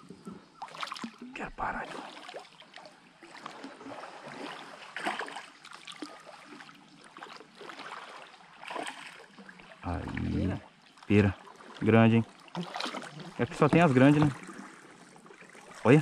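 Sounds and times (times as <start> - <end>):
water splashing around kayak: 0.0 - 16.0.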